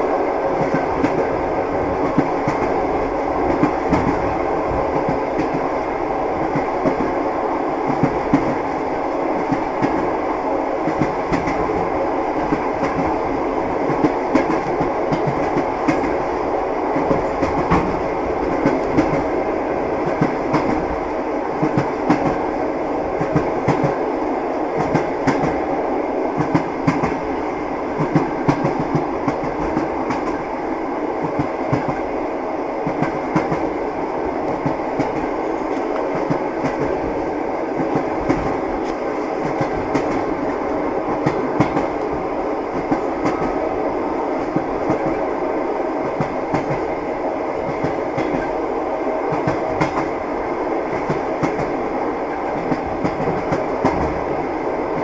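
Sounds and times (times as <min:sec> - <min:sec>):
train carriage rumble: 0:00.0 - 0:55.0
train wheels clickety-clack: 0:00.0 - 0:55.0.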